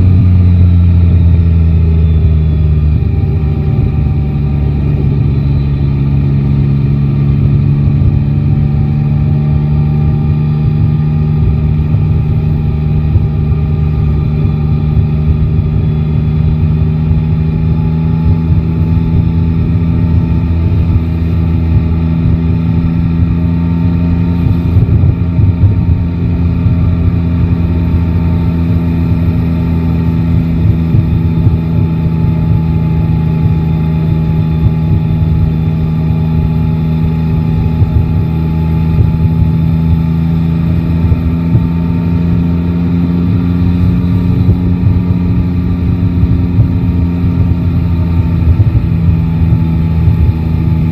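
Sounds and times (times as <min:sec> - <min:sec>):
motorcycle engine cruising: 0:00.0 - 0:50.9
road rumble: 0:00.0 - 0:50.9
wind noise: 0:00.0 - 0:50.9.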